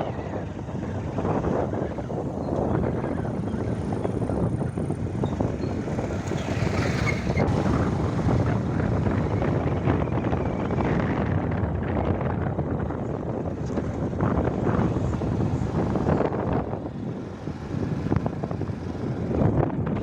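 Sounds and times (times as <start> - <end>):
motorcycle riding: 0.0 - 20.0
wind on microphone: 0.0 - 20.0.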